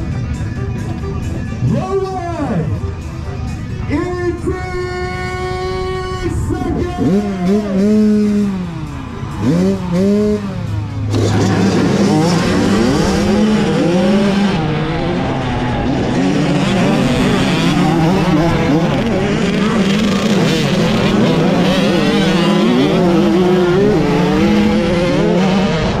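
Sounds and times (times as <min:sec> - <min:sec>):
dirt bike engine revving: 0:05.0 - 0:26.0.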